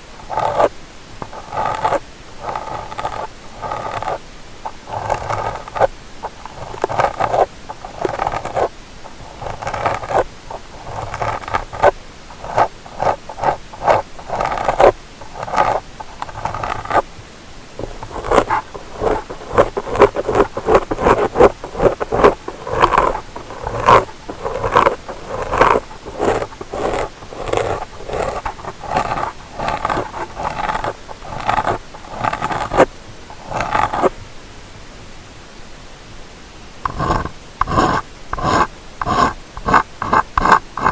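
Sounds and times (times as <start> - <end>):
ear-cleaning tool scraping microphone: 0.2 - 17.0, 17.8 - 34.1, 36.8 - 40.9.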